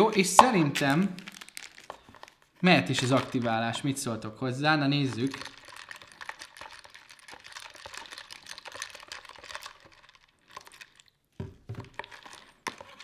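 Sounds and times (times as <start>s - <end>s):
spoon clicking and scraping plastic: 0.4s - 3.6s, 5.0s - 13.0s.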